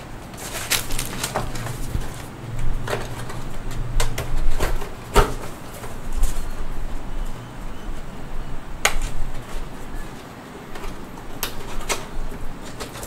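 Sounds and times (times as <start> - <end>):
paper packaging rustling: 0.0 - 6.9, 8.9 - 13.0.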